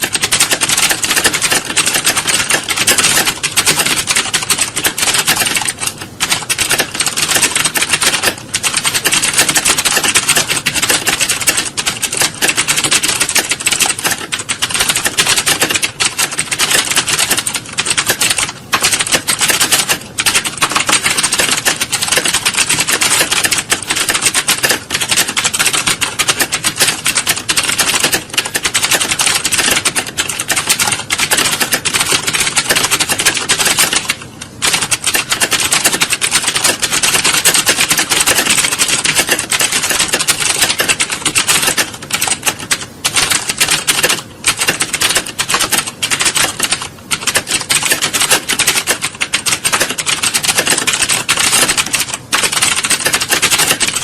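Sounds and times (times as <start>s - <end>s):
many keyboards clattering: 0.0s - 54.0s.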